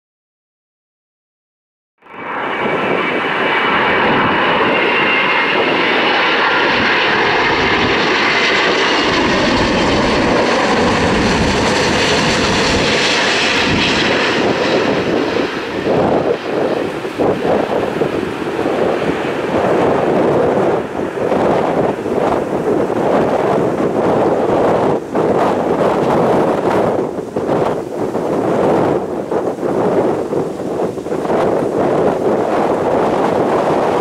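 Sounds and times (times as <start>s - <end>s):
airliner engines rumbling and whining: 2.0s - 34.0s
wind buffeting microphone: 2.1s - 34.0s.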